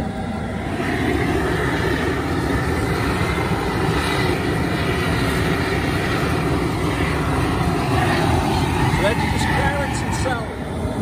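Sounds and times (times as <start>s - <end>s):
gas burner rushing: 0.0s - 11.0s.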